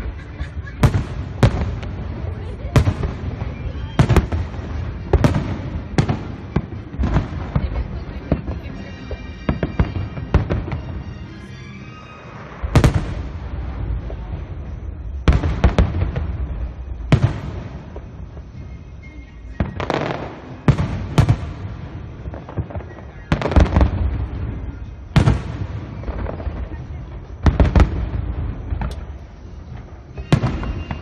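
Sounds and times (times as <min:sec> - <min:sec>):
fireworks booming: 0:00.0 - 0:11.5, 0:12.4 - 0:31.0
fireworks crackling: 0:00.0 - 0:31.0.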